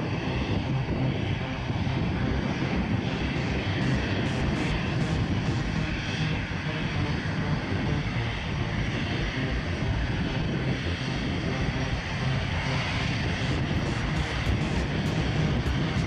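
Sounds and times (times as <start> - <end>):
jet engines at taxi power: 0.0 - 16.0.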